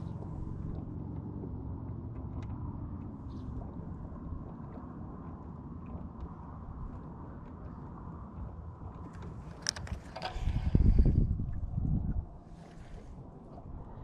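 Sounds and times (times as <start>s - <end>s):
boat motor rumbling: 0.0s - 14.0s.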